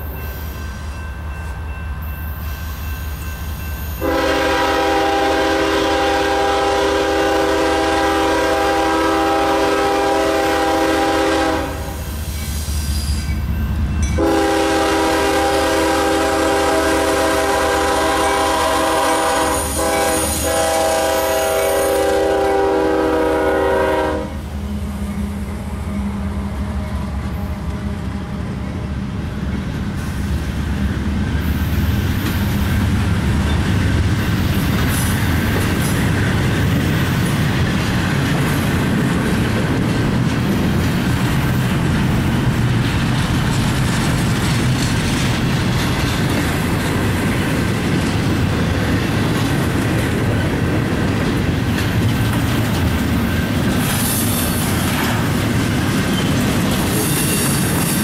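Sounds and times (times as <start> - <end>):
diesel locomotive engine drone: 0.0 - 58.0
freight train wheels rumbling on rails: 0.0 - 58.0.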